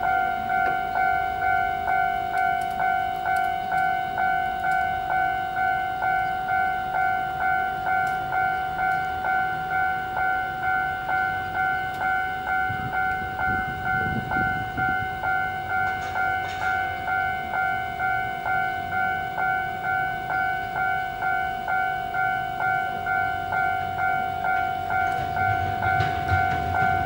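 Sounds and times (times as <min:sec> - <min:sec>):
electric train rumble: 0:00.0 - 0:27.0
level crossing alarm ringing: 0:00.0 - 0:27.0.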